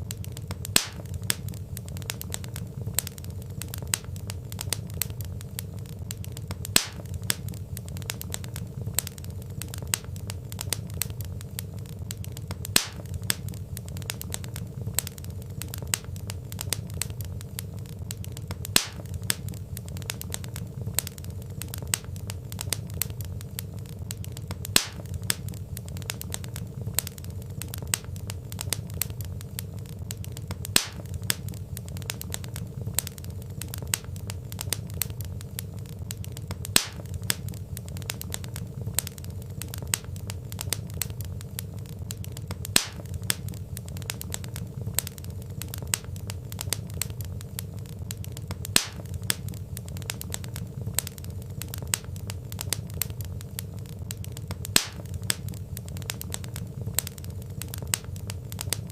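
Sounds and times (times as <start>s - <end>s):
low steady rumble: 0.0s - 58.9s
sharp fire pops: 0.0s - 58.9s
wood fire crackling: 0.0s - 58.9s.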